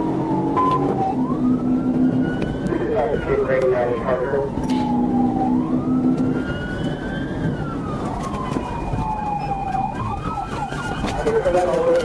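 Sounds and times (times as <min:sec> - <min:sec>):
police siren wailing and yelping: 0:00.0 - 0:12.0
vehicle engine and tyres: 0:00.0 - 0:12.0.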